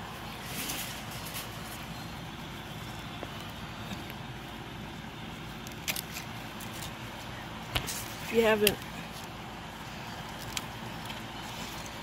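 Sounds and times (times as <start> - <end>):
air conditioner hum and whoosh: 0.0 - 12.0.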